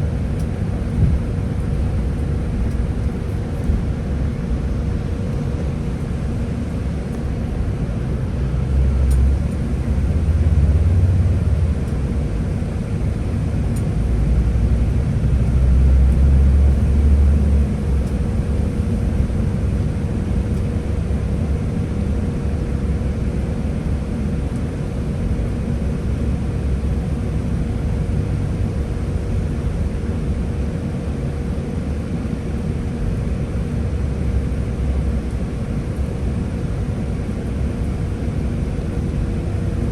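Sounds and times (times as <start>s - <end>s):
bus engine rumble: 0.0s - 39.9s
faint steady whine: 0.0s - 39.9s.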